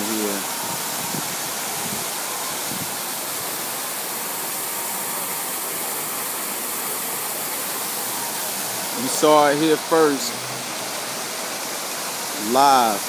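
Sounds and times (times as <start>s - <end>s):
fountain splashing: 0.0s - 13.0s.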